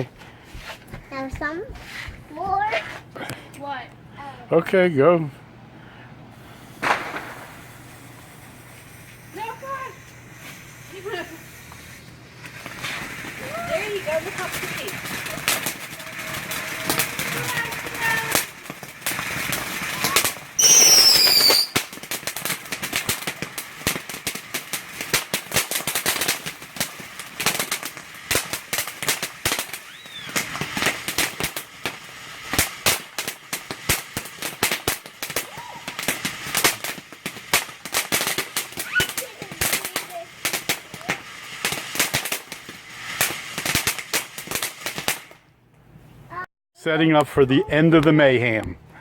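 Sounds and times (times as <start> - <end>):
fireworks cracking and popping: 0.0 - 3.8, 6.3 - 46.5.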